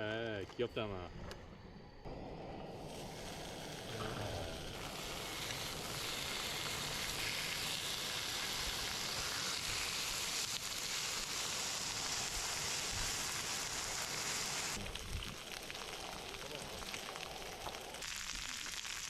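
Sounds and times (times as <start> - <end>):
meat sizzling on a grill pan: 2.7 - 19.0.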